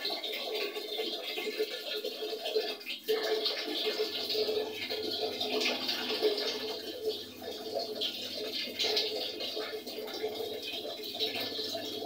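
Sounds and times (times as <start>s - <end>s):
tap water splashing into basin: 0.0s - 12.0s.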